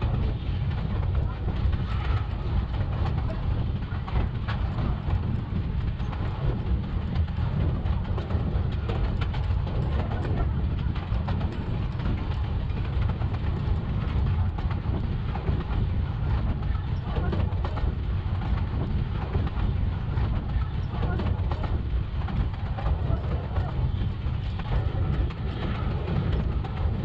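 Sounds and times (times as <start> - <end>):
rail car rumbling along track: 0.0 - 27.0
wheels rattling and clicking: 0.0 - 27.0.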